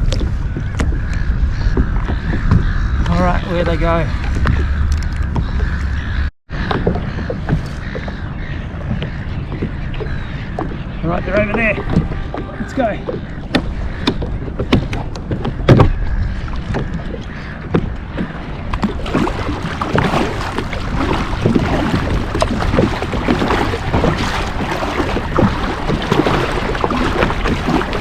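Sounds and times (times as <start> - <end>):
paddle strokes splashing: 0.0 - 28.0
water slapping the hull: 0.0 - 28.0.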